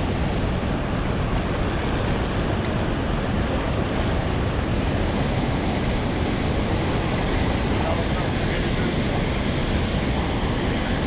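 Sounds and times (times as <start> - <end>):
water rushing through dam: 0.0 - 11.0.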